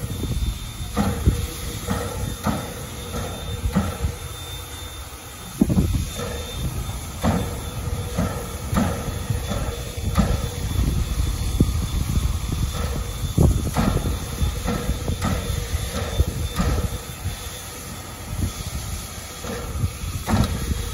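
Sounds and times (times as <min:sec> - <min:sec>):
steady steam hiss: 0:00.0 - 0:20.9
steam locomotive puffing: 0:00.0 - 0:20.9.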